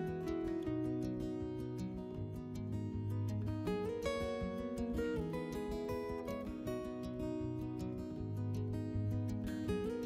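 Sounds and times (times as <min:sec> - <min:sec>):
acoustic guitar music: 0:00.0 - 0:10.0.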